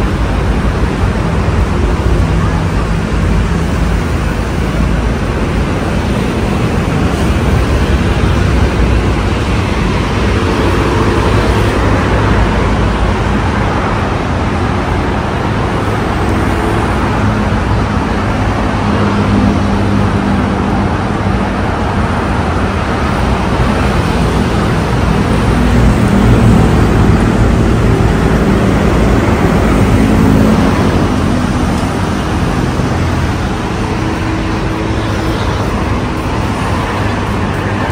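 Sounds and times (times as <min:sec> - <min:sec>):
cars passing: 0:00.0 - 0:37.9
motorbikes passing: 0:00.0 - 0:37.9.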